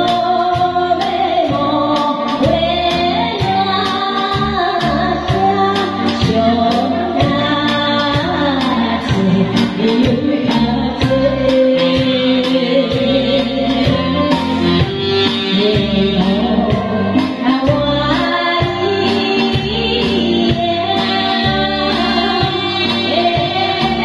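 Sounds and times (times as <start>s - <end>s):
band accompaniment with steady beat: 0.0s - 24.0s
woman singing into a microphone: 0.0s - 24.0s.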